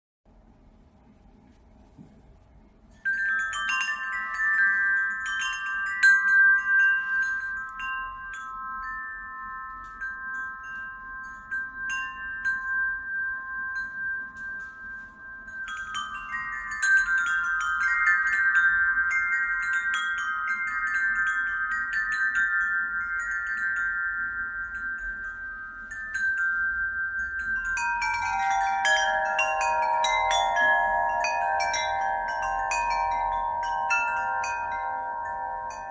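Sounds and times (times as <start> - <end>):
lower-pitched wind chimes: 2.9 - 35.9
wind chimes ringing: 2.9 - 35.9.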